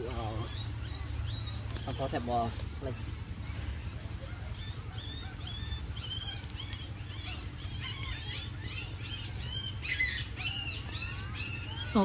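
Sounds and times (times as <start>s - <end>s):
puppy squealing: 0.4s - 2.3s, 4.2s - 12.0s.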